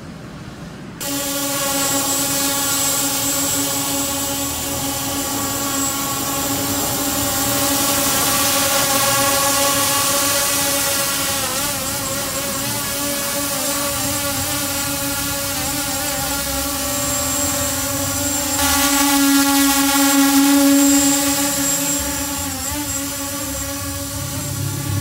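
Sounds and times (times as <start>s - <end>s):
drone propellers buzzing: 1.0s - 25.0s.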